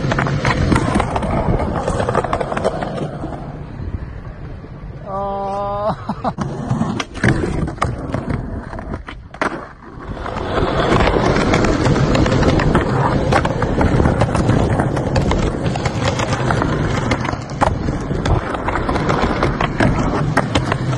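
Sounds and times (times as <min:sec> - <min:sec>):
skateboard knocks and clacks: 0:00.0 - 0:03.5, 0:06.3 - 0:20.9
skateboard wheels rolling on concrete: 0:00.0 - 0:20.9.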